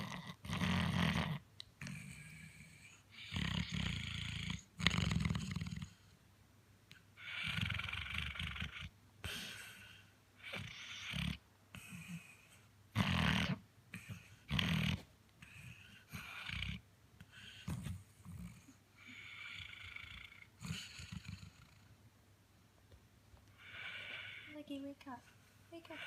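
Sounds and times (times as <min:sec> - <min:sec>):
dog snoring: 0:00.0 - 0:06.2, 0:07.2 - 0:21.9, 0:23.6 - 0:24.6.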